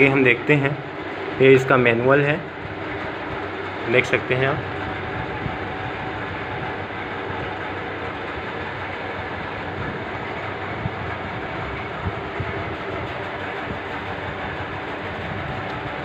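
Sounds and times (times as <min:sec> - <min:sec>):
rushing mechanical noise with hum: 0:00.0 - 0:16.0.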